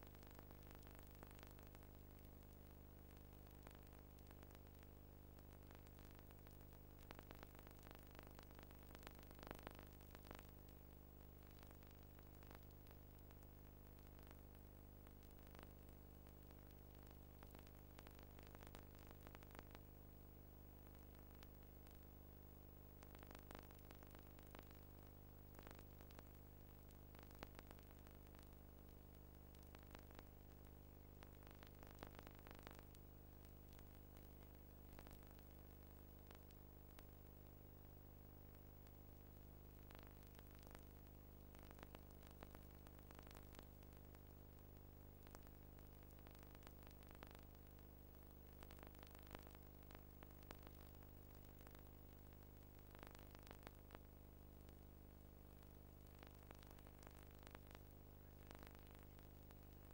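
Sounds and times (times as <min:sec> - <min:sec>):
faint clicks and crackle: 0:00.0 - 0:59.9
faint low hum with hiss: 0:00.0 - 0:59.9.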